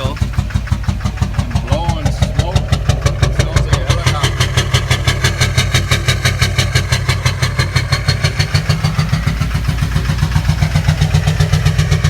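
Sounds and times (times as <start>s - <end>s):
diesel engine idling with knock: 0.0s - 12.0s.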